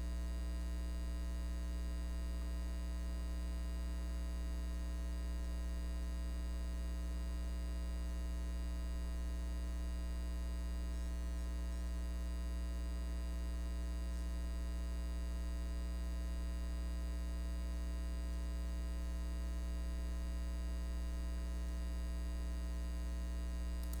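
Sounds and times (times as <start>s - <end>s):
buzzy electrical hum: 0.0s - 24.0s.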